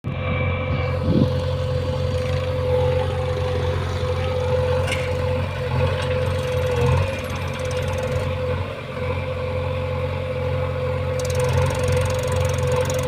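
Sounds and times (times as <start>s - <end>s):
heavy engine rumbling with whine: 0.0s - 13.0s.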